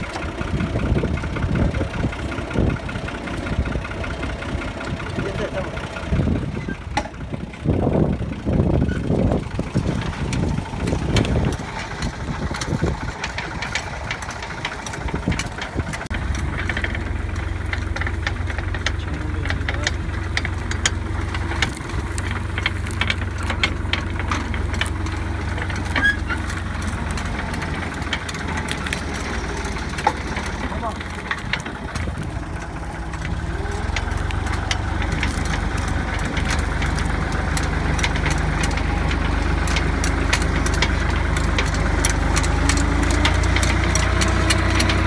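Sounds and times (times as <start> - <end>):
machinery clicks and rattles: 0.0 - 45.0
tractor engine running: 0.0 - 45.0.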